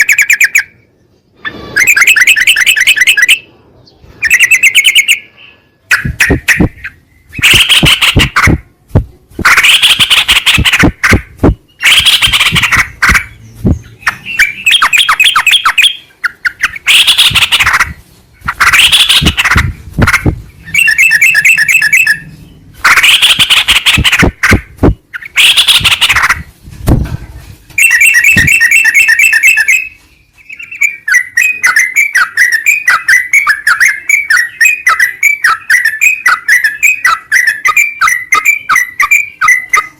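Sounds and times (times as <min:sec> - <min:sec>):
bulbul song: 0:00.0 - 0:26.6, 0:27.8 - 0:39.9.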